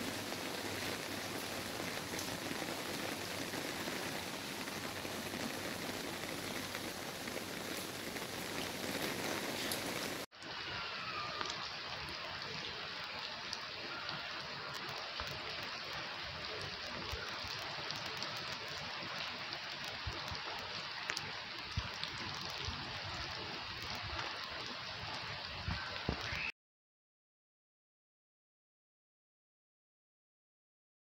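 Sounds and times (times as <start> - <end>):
heavy rain on concrete: 0.0 - 26.5.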